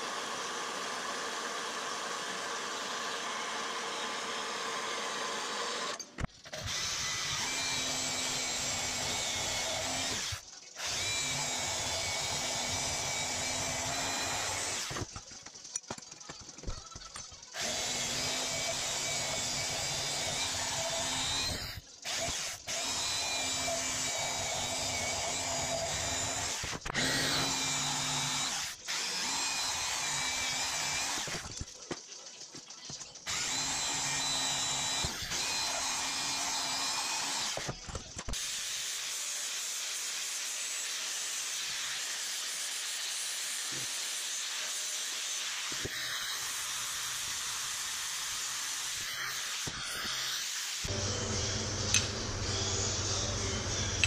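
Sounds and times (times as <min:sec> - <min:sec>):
band saw cutting metal: 0:00.0 - 0:15.1, 0:17.6 - 0:31.5, 0:33.3 - 0:54.0.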